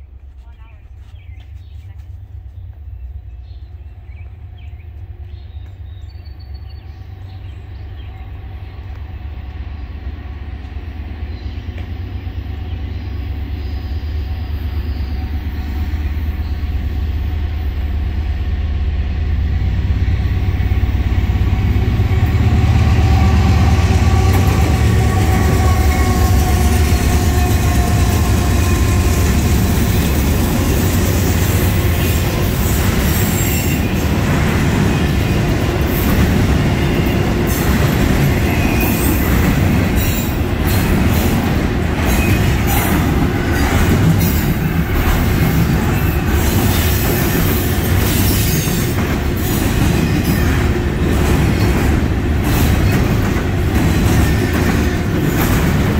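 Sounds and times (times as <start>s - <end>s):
diesel locomotives approaching: 0.0s - 55.9s.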